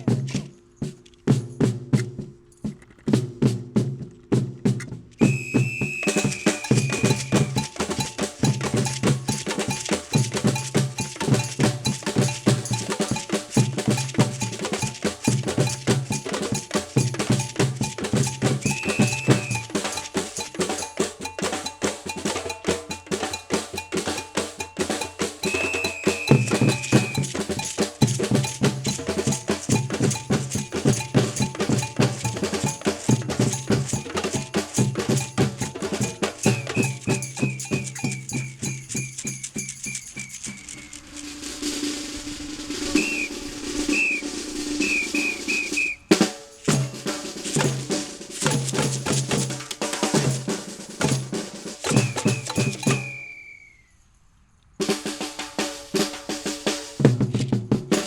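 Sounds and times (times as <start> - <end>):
fast clicking percussion beat: 0.0 - 53.2, 54.8 - 58.0.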